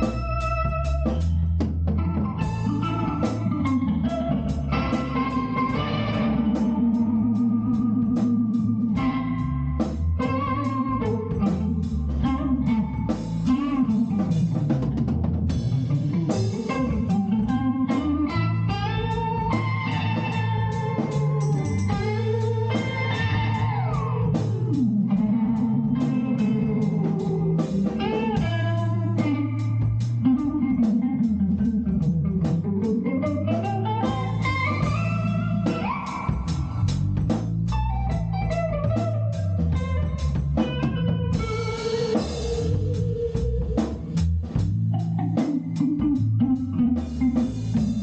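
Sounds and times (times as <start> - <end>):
bass line: 0.0 - 48.0
drum kit: 0.0 - 48.0
guitar with bending notes: 0.0 - 48.0.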